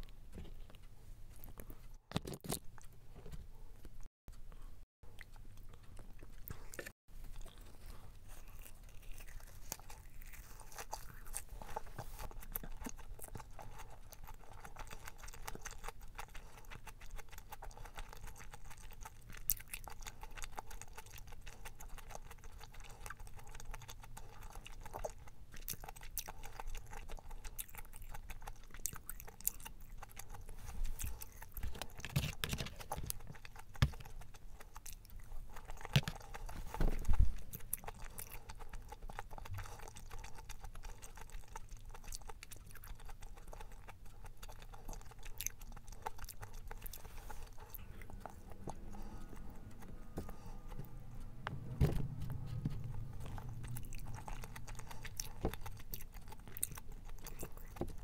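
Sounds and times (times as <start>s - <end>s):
wet chewing: 3.8s - 58.0s.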